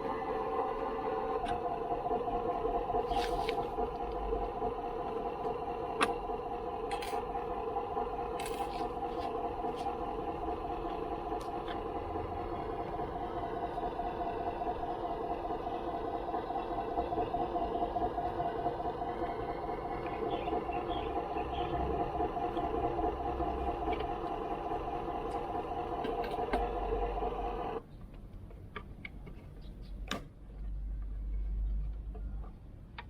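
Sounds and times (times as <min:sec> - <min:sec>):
mechanical hum: 0:00.0 - 0:33.0.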